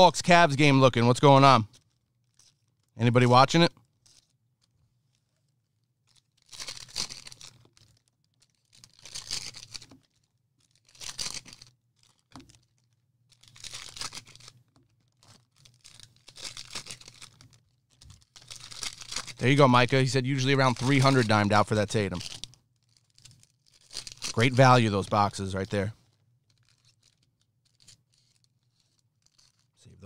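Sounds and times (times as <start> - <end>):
plastic wrappers tearing and crinkling: 0.2 - 29.8.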